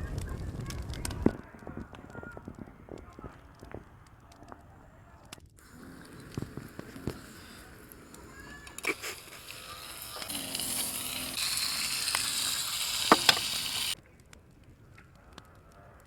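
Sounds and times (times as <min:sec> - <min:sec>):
food sizzling over fire: 0:00.0 - 0:04.7, 0:05.6 - 0:14.0
sharp clicks and pops: 0:00.0 - 0:14.4.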